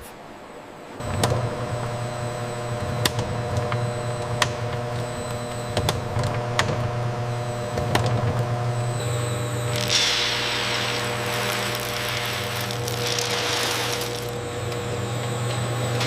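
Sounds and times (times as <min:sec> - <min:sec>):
machinery humming: 0:00.9 - 0:16.0.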